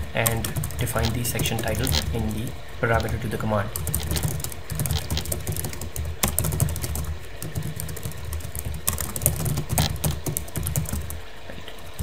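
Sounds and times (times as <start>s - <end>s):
keyboard typing: 0.0s - 11.2s.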